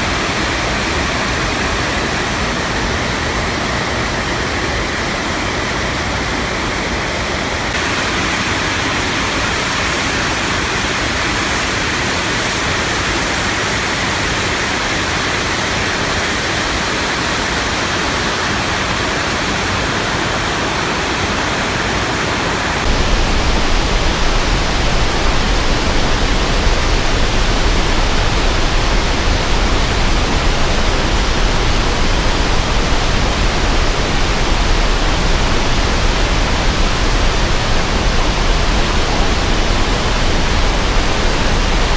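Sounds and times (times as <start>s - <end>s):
water rushing from dam: 0.0s - 41.9s.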